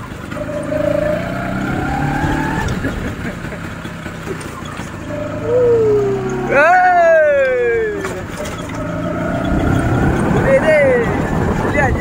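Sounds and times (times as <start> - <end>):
scooter engine whine: 0.0 - 12.0.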